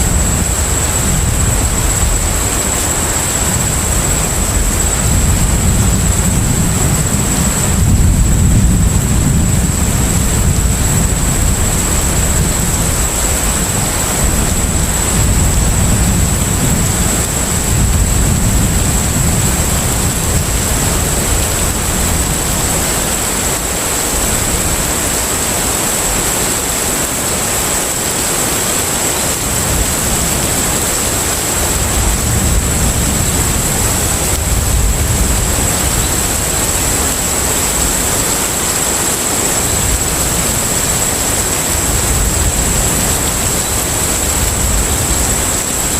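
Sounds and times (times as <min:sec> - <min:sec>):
ship low rumble: 0:00.0 - 0:45.9.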